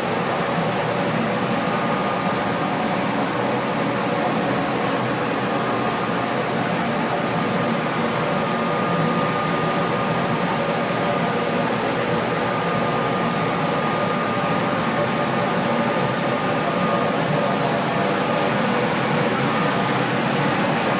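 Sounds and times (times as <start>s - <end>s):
boiler room machinery humming: 0.0s - 20.9s.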